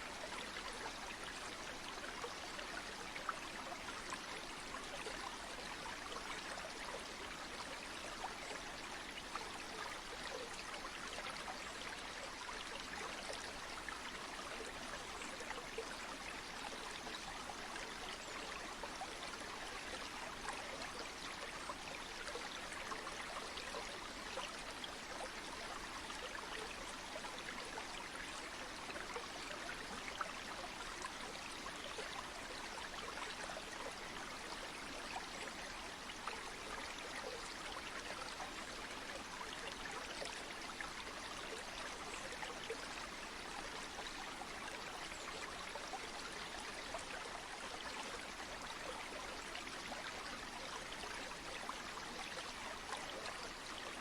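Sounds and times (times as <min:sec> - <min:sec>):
river water flowing: 0:00.1 - 0:54.0.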